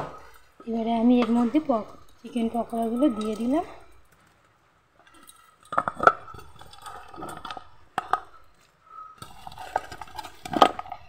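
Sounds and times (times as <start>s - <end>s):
gravy boiling: 0.0s - 11.0s
utensil clinking and scraping in pan: 0.1s - 4.2s, 5.0s - 11.0s.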